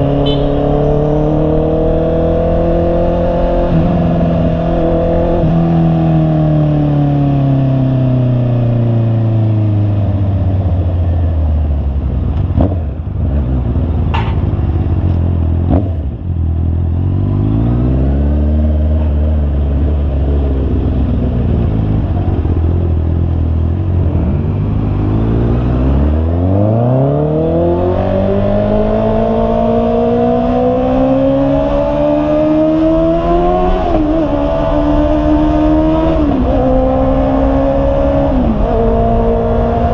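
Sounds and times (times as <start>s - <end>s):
motorcycle engine revving: 0.0s - 11.2s, 11.8s - 39.9s.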